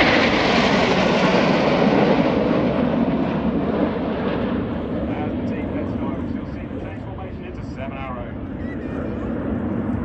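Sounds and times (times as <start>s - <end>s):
jet aircraft roaring overhead: 0.0s - 10.0s.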